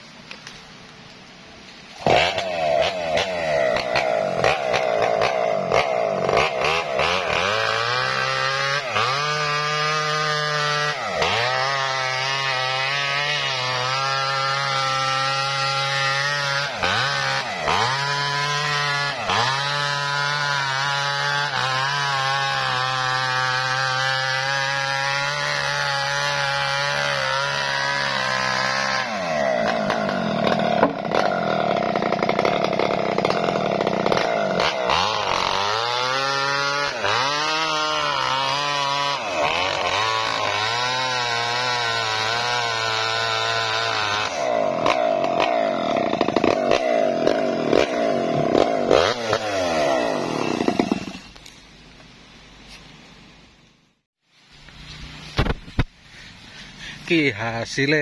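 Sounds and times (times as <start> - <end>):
chainsaw cutting log: 1.6 - 51.6, 54.6 - 57.1.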